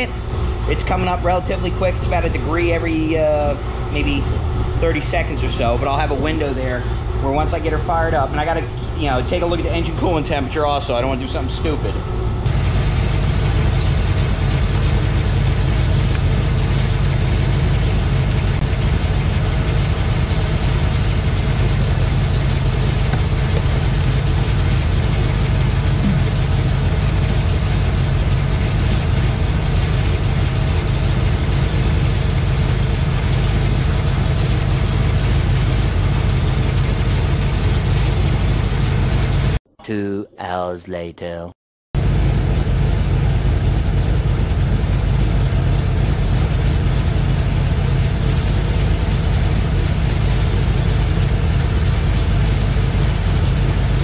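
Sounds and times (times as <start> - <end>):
car engine idling: 0.0 - 39.6, 42.0 - 54.0.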